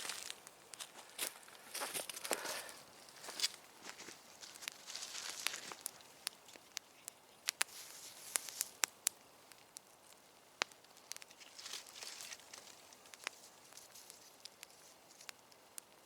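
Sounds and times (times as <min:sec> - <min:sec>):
rustling: 0:00.0 - 0:15.6
campfire crackling and popping: 0:00.0 - 0:16.0.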